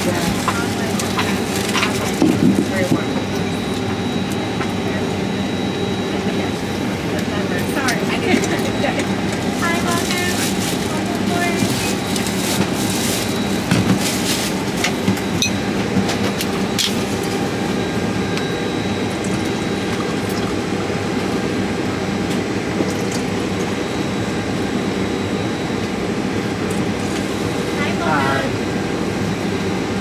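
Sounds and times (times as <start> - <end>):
airliner cabin hum: 0.0 - 30.0.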